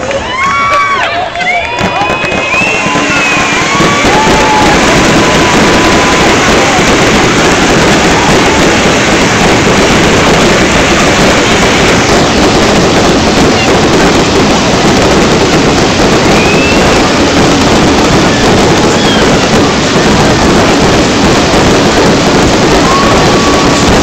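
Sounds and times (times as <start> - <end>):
fireworks crackling: 0.0 - 24.0.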